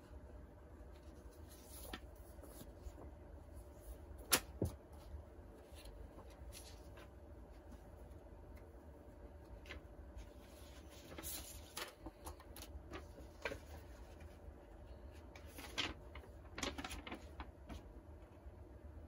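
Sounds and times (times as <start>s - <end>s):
faint low hum: 0.0s - 19.0s
paper rustling and crinkling: 0.8s - 8.7s, 9.4s - 18.0s.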